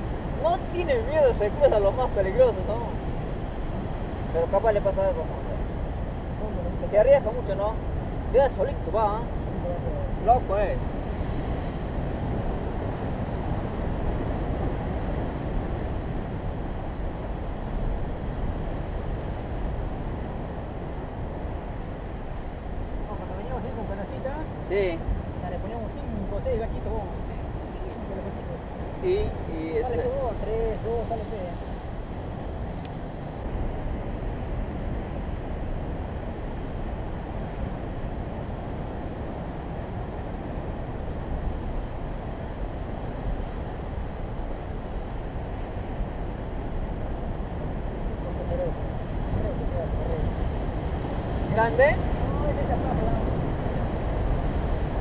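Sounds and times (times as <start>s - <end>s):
ocean surf breaking on rocks: 0.0s - 55.0s
wind rumbling on microphone: 0.0s - 55.0s.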